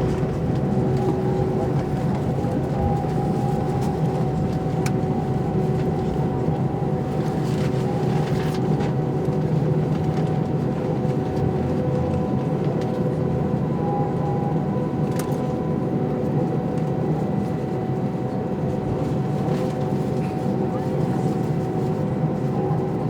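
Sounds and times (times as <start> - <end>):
jet engine drone in cabin: 0.0 - 23.0.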